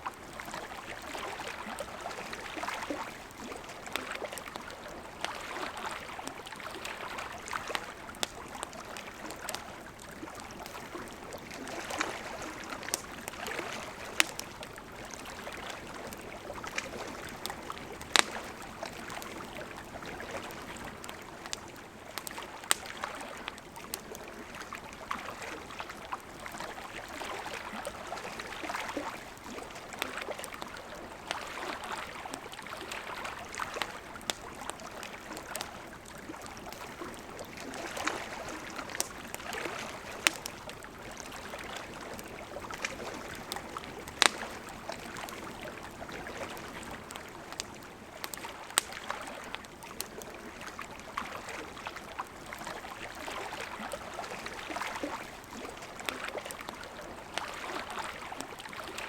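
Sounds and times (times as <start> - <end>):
campfire crackling and popping: 0.0 - 59.0
river water flowing: 0.0 - 59.0.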